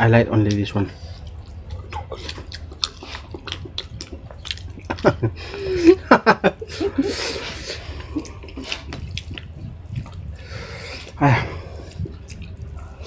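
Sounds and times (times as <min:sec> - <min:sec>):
wet chewing and smacking: 0:00.4 - 0:13.0.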